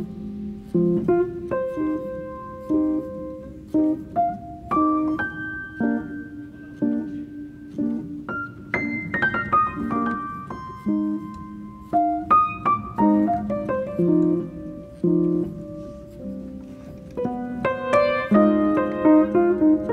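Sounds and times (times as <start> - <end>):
gentle piano music: 0.0 - 19.9.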